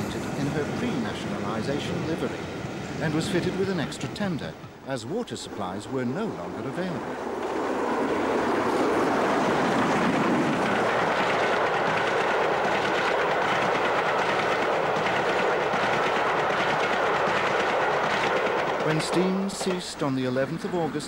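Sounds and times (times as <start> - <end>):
steam train running past: 0.0 - 21.0.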